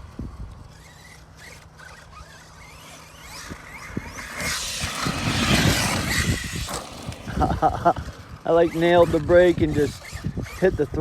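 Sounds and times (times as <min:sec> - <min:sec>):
electric motor whining: 0:00.0 - 0:11.0
tyres tearing through dirt: 0:00.0 - 0:11.0.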